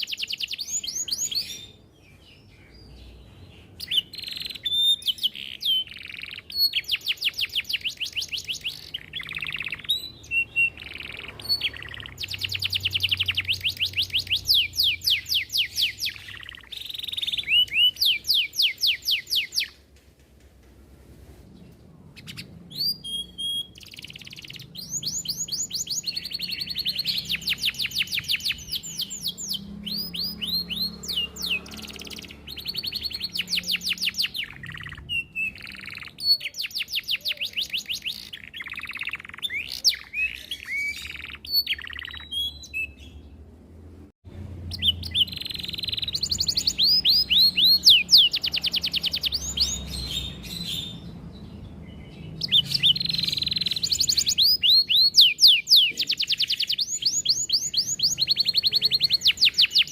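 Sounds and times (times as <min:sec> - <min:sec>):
canary singing trills: 0:00.0 - 0:19.8, 0:21.8 - 0:43.6, 0:44.4 - 0:59.9.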